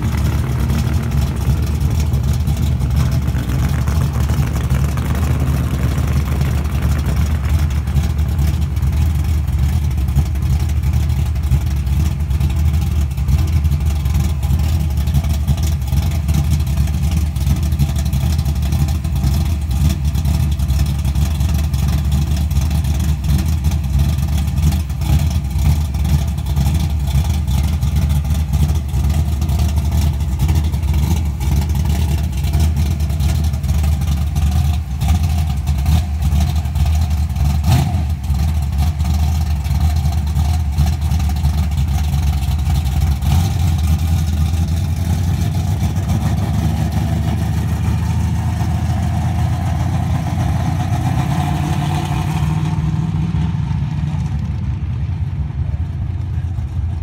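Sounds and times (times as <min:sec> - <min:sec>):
car engine idling: 0:00.0 - 0:57.0
car pulling away: 0:00.0 - 0:57.0.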